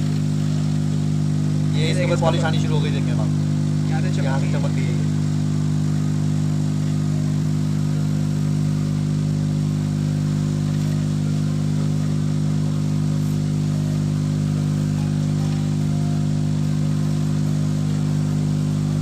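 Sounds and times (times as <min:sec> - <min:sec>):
polishing motor humming: 0:00.0 - 0:19.0.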